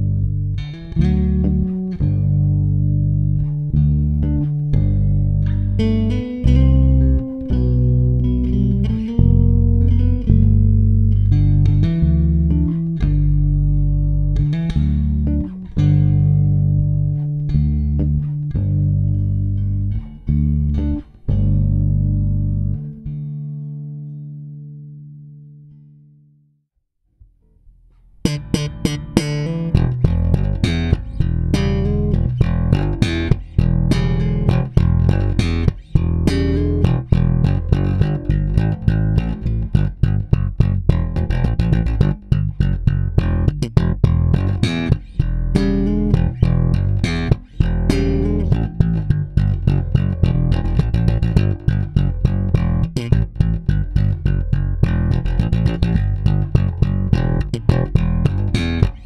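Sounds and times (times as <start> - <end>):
electric bass plucked notes: 0.0 - 26.4, 28.0 - 59.0.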